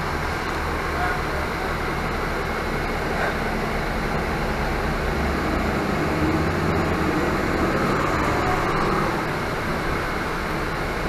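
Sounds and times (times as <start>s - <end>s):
bus diesel engine drone: 0.0s - 11.0s
road noise: 0.0s - 11.0s.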